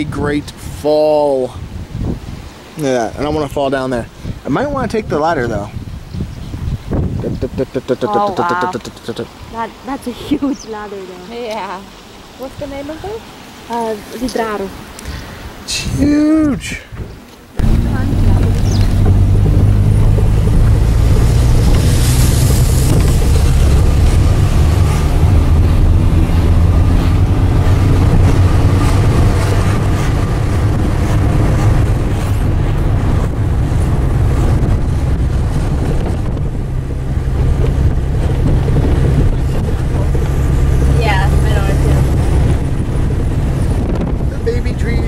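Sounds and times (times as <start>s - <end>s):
car engine and tyres rumbling: 0.0s - 45.0s
wind rushing across microphone: 0.0s - 45.0s.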